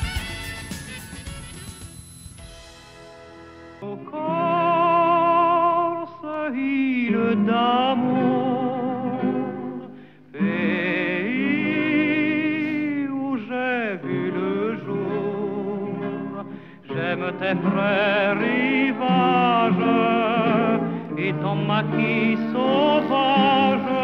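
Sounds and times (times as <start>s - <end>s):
person singing with vibrato: 3.8s - 24.0s.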